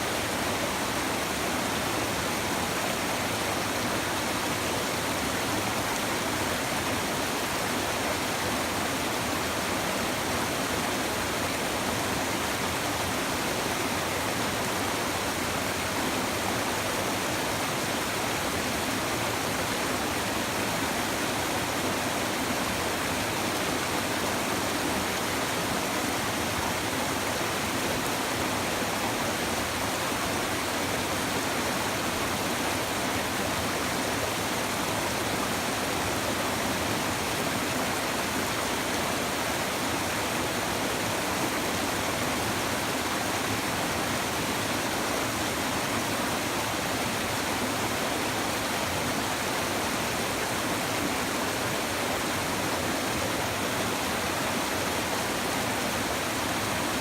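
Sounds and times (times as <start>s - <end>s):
river babbling over stones: 0.1s - 57.0s.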